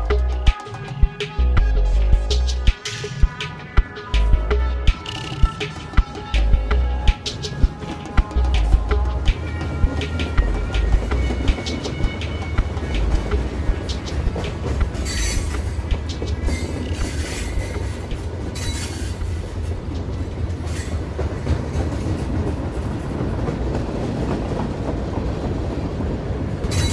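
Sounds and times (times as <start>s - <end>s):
train rumbling on track: 0.0s - 26.9s.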